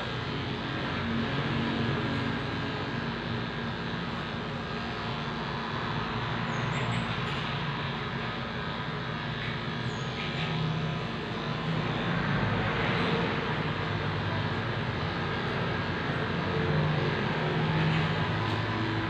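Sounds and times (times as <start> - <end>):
electric clippers buzzing: 0.0 - 19.0.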